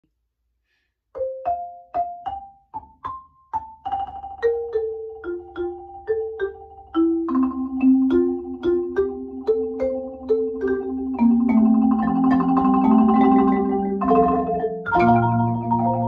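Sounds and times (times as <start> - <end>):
marimba ensemble playing: 1.2 - 16.0.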